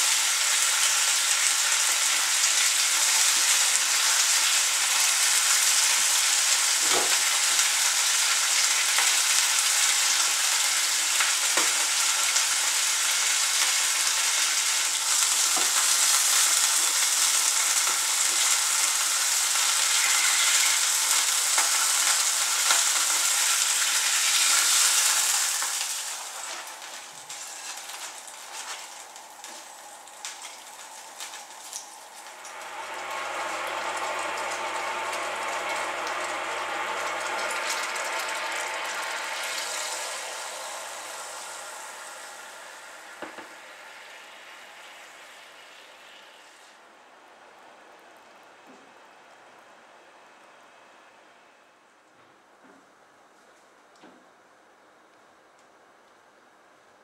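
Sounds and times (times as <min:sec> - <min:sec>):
chicken sizzling in hot oil: 0:00.0 - 0:46.8
liquid boiling in a saucepan: 0:00.0 - 0:50.6.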